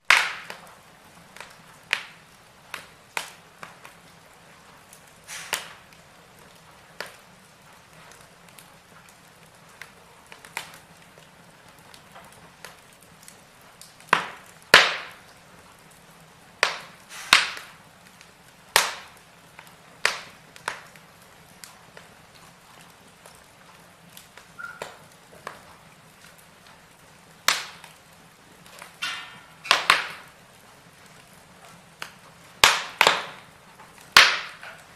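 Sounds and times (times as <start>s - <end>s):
wood fire crackling and popping: 0.0s - 34.9s
fire hissing: 0.1s - 34.9s.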